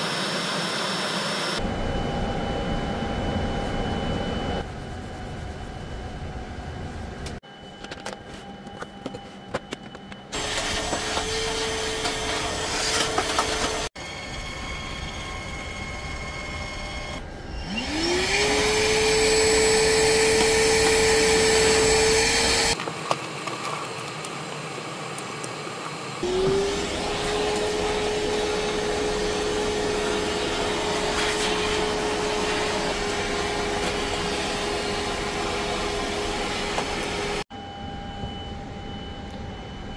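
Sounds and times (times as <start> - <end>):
vacuum cleaner motor whine: 0.0 - 4.7, 7.4 - 22.8, 24.5 - 39.9.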